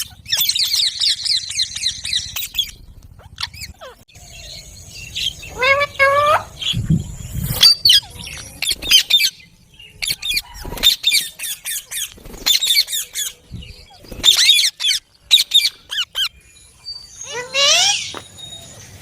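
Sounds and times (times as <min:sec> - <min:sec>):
parakeets squawking: 0:00.0 - 0:06.9, 0:07.5 - 0:16.4, 0:17.0 - 0:18.3.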